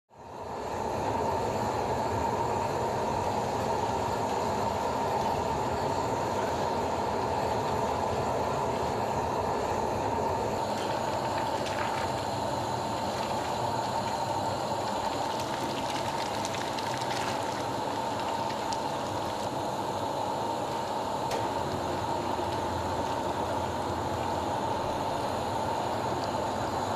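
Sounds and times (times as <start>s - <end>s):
foundry machinery roar: 0.2s - 26.9s.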